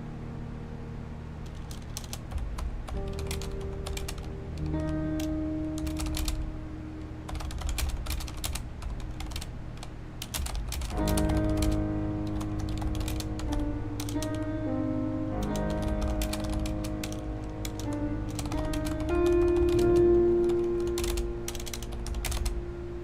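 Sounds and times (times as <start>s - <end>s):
soft background music: 0.0s - 23.0s
mechanical keyboard typing: 1.4s - 6.5s, 7.3s - 14.4s, 15.4s - 22.6s.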